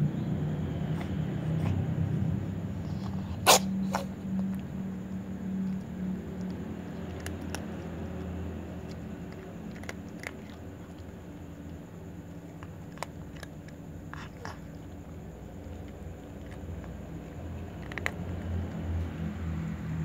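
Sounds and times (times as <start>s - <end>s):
cat crunching dry kibble: 2.4s - 19.3s.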